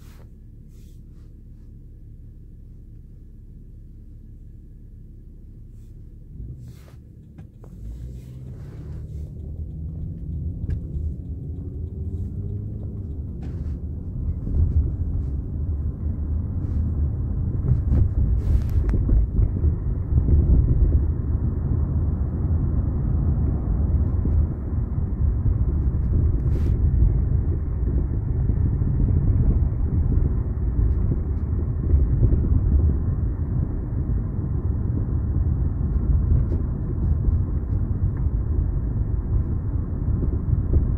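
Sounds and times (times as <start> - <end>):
car engine accelerating: 0.0 - 40.9
road rumble: 0.0 - 40.9.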